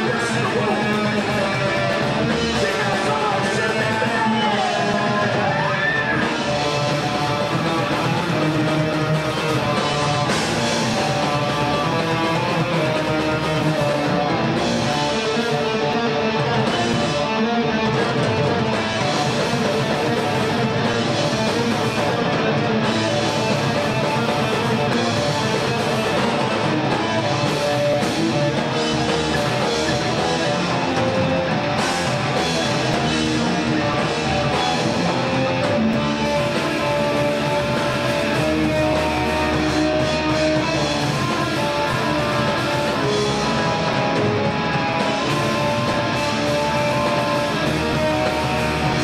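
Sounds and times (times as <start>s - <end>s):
distorted electric guitars: 0.0s - 49.0s
drum kit: 0.0s - 49.0s.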